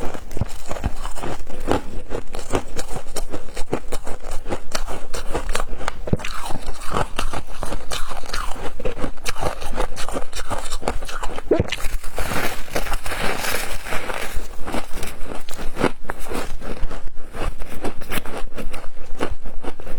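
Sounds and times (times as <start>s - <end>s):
person chewing crunchy frost: 0.0s - 19.9s.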